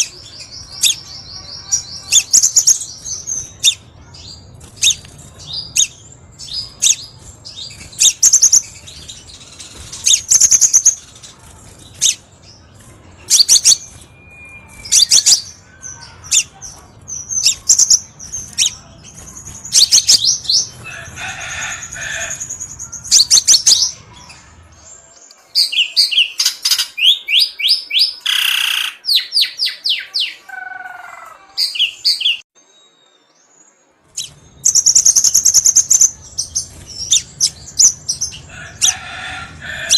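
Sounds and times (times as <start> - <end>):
bird chirps and trills: 0.0 - 24.9, 25.6 - 39.9.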